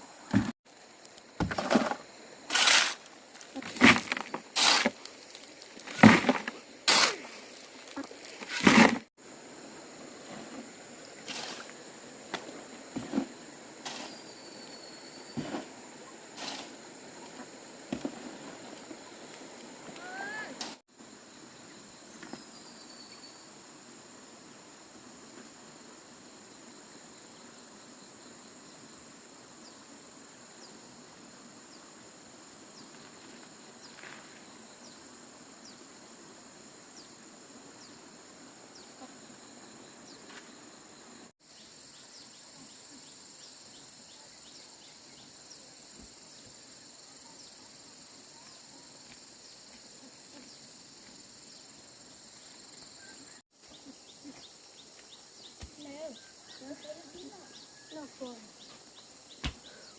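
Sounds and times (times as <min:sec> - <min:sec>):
insect chirps: 0:00.0 - 0:59.9
insects trilling: 0:00.0 - 0:59.9.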